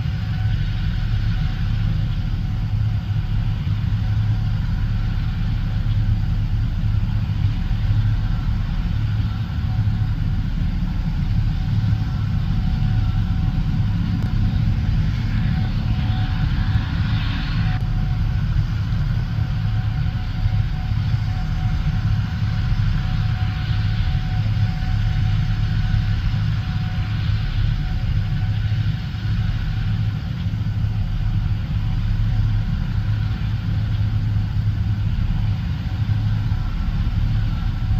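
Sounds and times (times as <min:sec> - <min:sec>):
combine harvester engine hum: 0:00.0 - 0:37.9.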